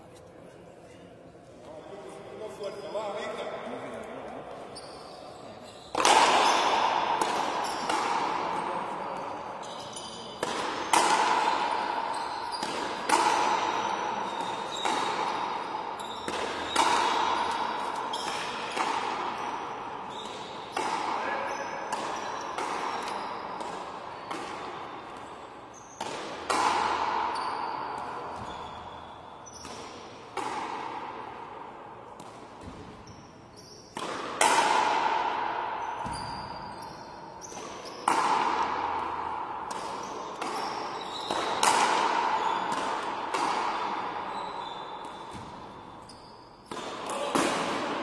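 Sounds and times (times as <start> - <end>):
rackets striking ball: 5.9 - 33.1, 33.8 - 48.0.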